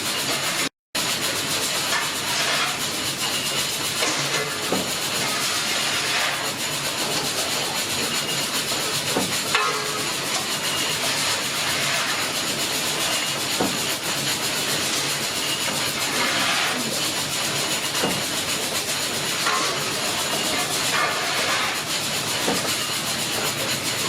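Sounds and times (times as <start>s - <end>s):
steam engine hissing steam: 0.0s - 24.0s.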